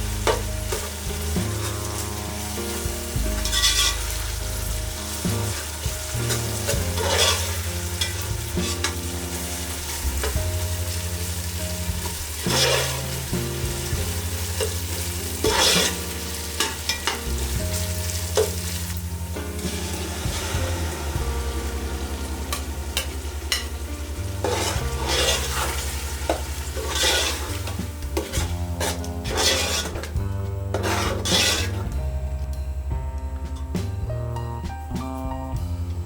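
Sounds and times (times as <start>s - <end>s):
food sizzling in a pan: 0.0s - 32.0s
spoon scraping a pan: 0.2s - 20.6s, 22.0s - 32.0s.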